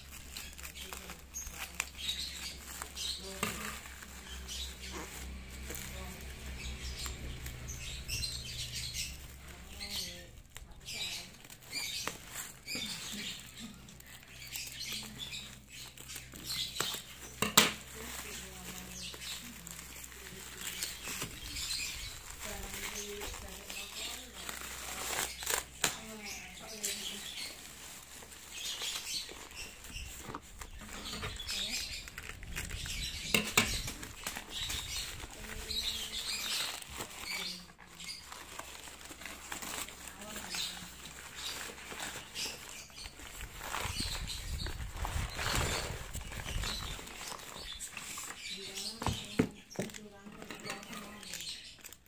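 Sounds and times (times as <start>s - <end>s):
plastic wrap crinkling: 0.0s - 52.0s.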